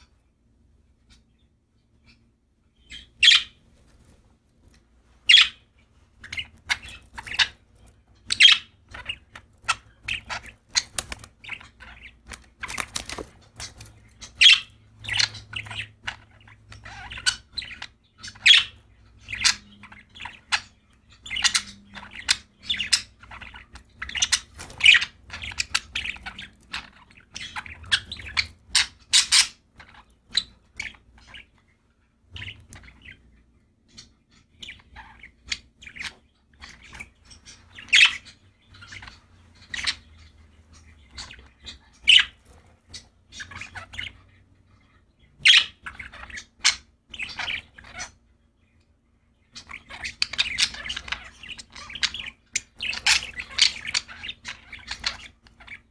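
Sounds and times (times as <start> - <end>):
budgerigars chirping and squawking: 0.0 - 55.9.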